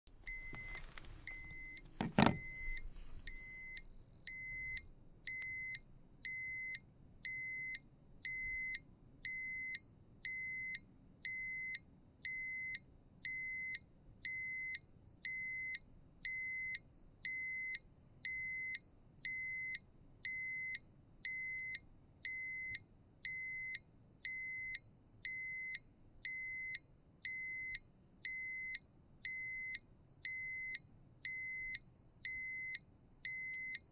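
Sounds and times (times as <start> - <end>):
dosimeter alarm tone and beeps: 0.1 - 33.9.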